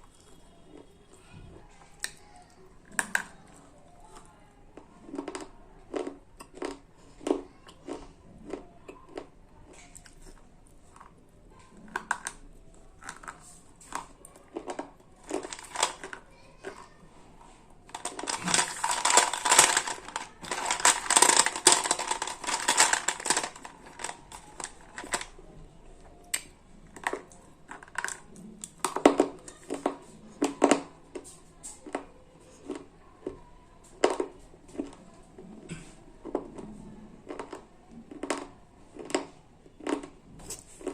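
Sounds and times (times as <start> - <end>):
slate pencils being chewed: 0.0 - 40.9.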